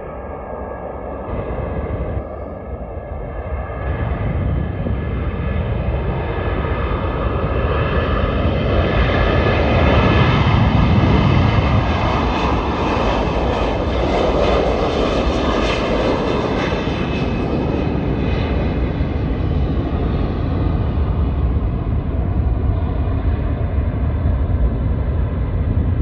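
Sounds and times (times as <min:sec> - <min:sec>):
jet aircraft taking off: 0:00.0 - 0:26.0.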